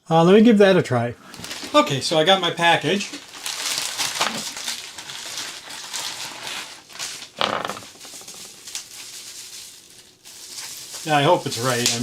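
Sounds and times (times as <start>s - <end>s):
packaging crinkling and rustling: 1.3s - 12.0s.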